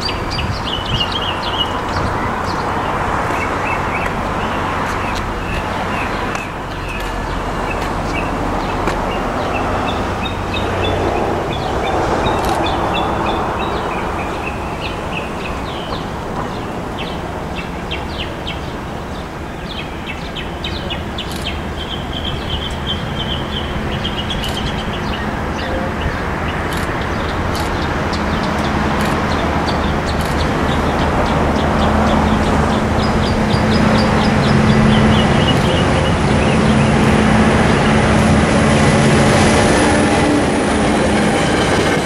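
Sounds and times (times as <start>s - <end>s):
birds chirping: 0.0s - 42.0s
locomotive rumble: 0.0s - 42.0s.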